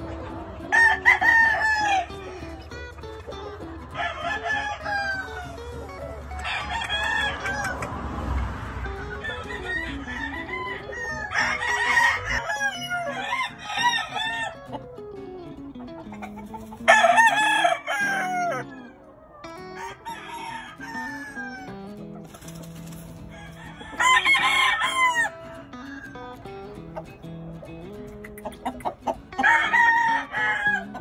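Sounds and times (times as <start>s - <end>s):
roosters crowing: 0.0s - 14.9s, 16.2s - 26.6s, 28.7s - 31.0s.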